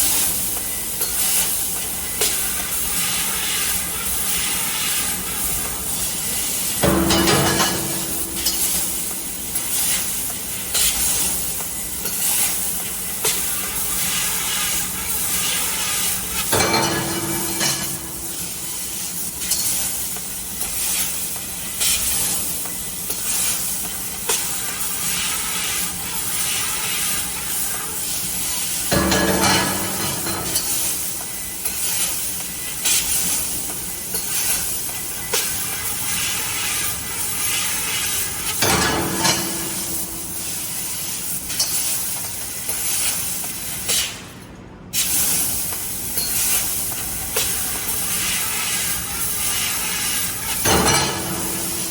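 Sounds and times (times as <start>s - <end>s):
laser cutting metal hiss: 0.0s - 51.9s.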